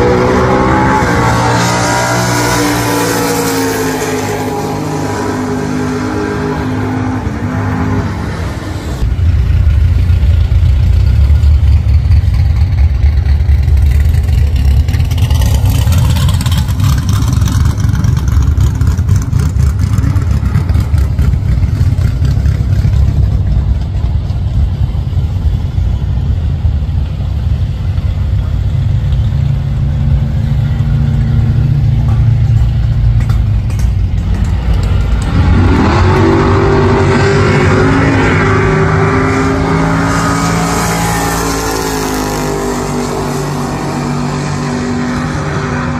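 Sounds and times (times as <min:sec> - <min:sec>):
muscle car engines rumbling and revving: 0:00.0 - 0:45.9.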